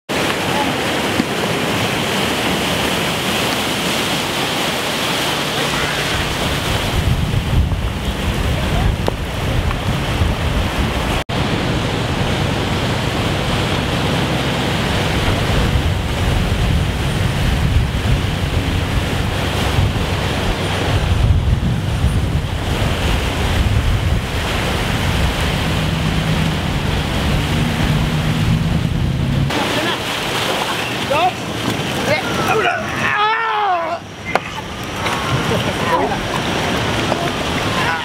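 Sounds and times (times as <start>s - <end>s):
wind on microphone: 0.1s - 32.6s
floodwater rushing: 0.1s - 38.0s
vehicles wading through water: 0.1s - 38.0s.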